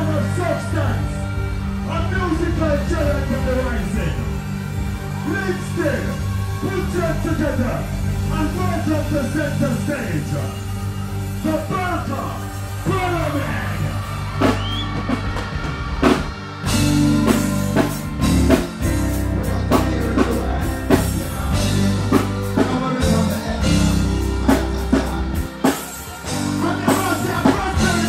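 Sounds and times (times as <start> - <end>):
bass notes: 0.0 - 28.0
drum kit steady beat: 0.0 - 28.0
keyboards: 0.0 - 28.0.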